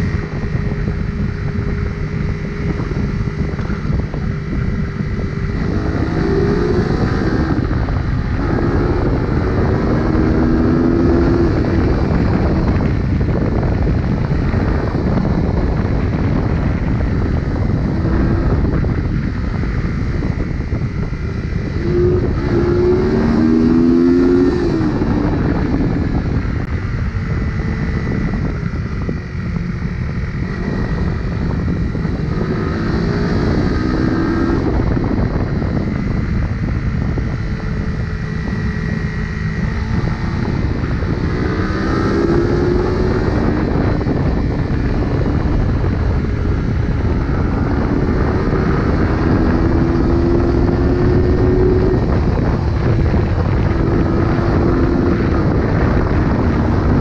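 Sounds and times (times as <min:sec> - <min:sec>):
motorcycle engine revving: 0:00.0 - 0:57.0
wind on microphone: 0:00.0 - 0:57.0.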